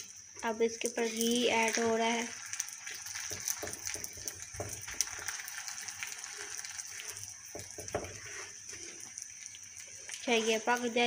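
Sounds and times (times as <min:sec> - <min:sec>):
flatbread sizzling in ghee: 0:00.0 - 0:11.0.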